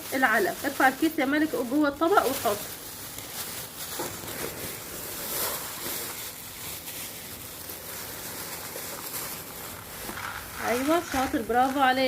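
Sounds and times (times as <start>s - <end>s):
dry feed pouring from a sack: 0.0s - 12.0s.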